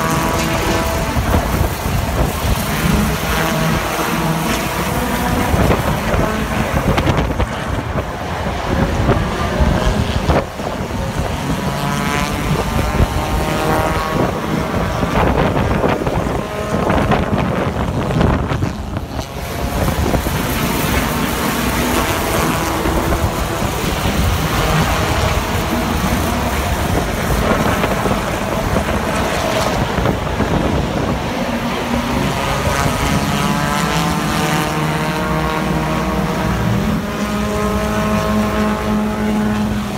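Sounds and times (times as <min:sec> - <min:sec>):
race car engines: 0:00.0 - 0:39.9
wind buffeting microphone: 0:00.0 - 0:39.9.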